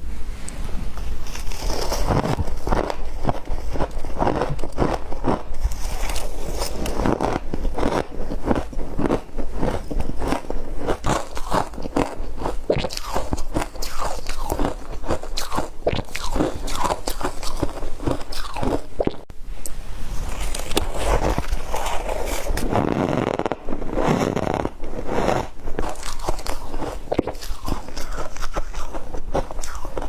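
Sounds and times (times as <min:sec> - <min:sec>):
person chewing crunchy ice: 0:01.2 - 0:19.3, 0:20.4 - 0:30.0.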